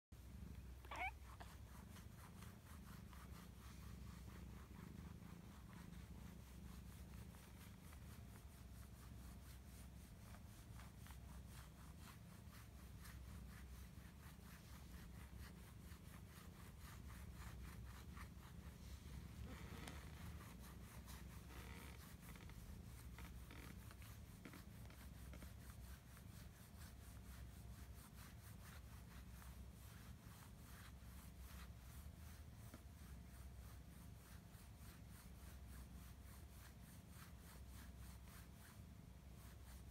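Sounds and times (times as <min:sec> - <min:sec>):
cat purring: 0:00.2 - 0:39.9.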